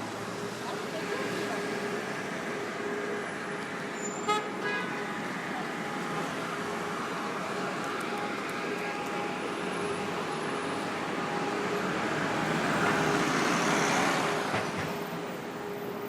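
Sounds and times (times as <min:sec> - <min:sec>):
traffic engine hum: 0:00.0 - 0:16.0.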